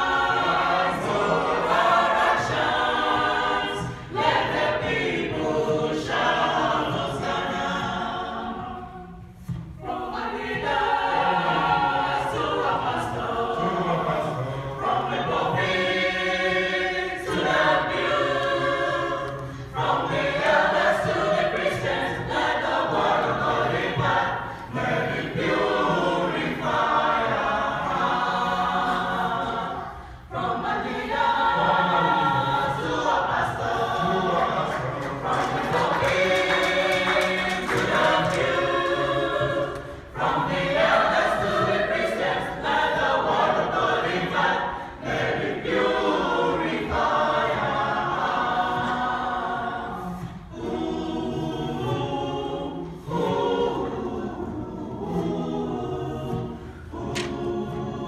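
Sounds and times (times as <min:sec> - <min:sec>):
youth choir singing: 0:00.0 - 0:58.0.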